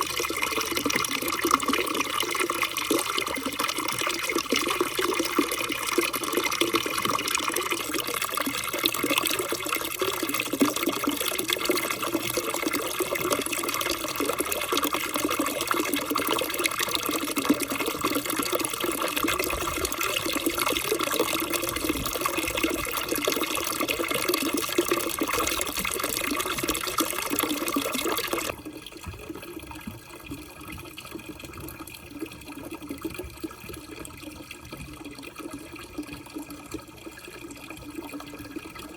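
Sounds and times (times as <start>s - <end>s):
water running and splashing: 0.0s - 38.9s.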